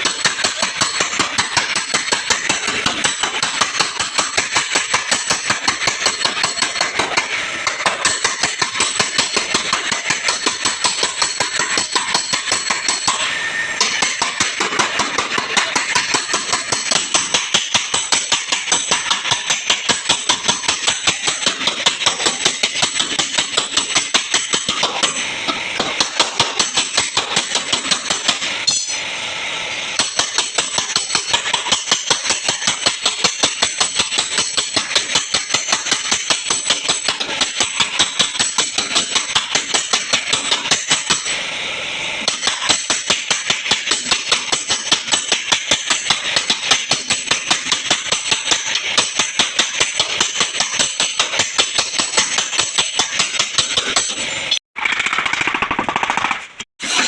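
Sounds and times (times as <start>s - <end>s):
hammer tapping sheet metal: 0.0s - 29.0s, 30.0s - 41.3s, 42.3s - 57.0s.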